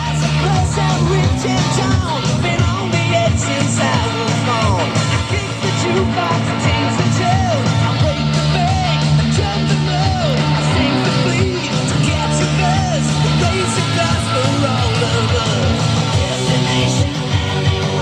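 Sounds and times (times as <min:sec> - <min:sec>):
person singing: 0:00.0 - 0:18.0
rock song with guitar: 0:00.0 - 0:18.0.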